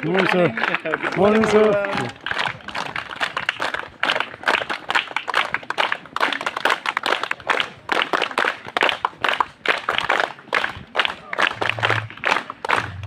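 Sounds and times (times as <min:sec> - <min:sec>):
children clapping: 0:00.0 - 0:13.0.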